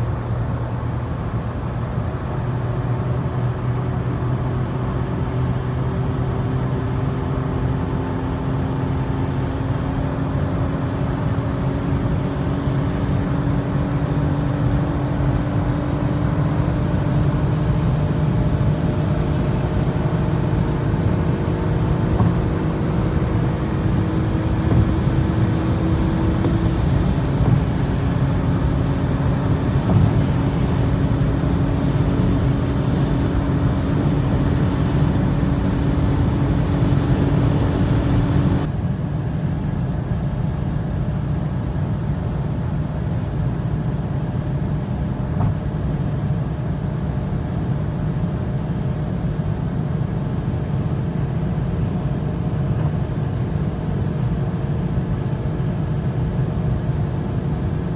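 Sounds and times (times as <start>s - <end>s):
car engine at high revs: 0.0s - 57.9s
wind and tyre noise: 0.0s - 57.9s.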